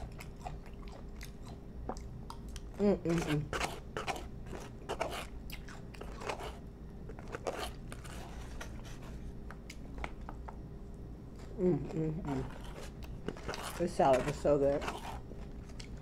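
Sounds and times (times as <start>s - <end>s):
chewing crisp lettuce: 0.0s - 9.0s, 11.3s - 16.0s.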